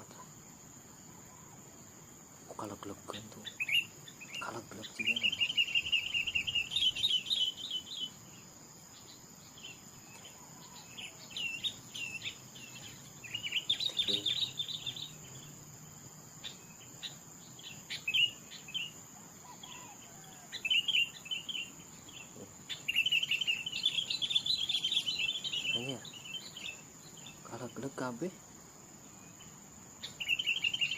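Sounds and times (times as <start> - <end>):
high insect buzz: 0.0 - 30.9
small birds chirping: 0.0 - 30.9.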